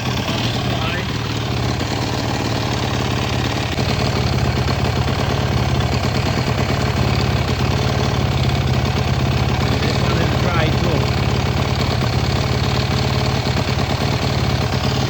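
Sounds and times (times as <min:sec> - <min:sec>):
four-stroke engine idling: 0:00.0 - 0:15.0.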